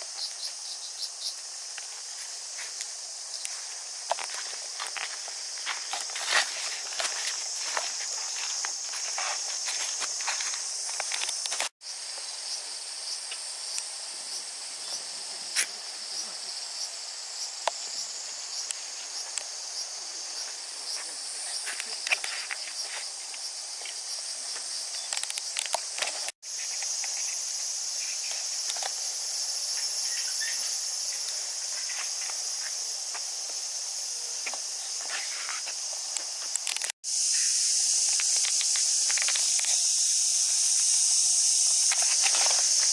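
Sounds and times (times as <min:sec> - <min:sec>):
cicadas shrilling: 0:00.0 - 0:42.9.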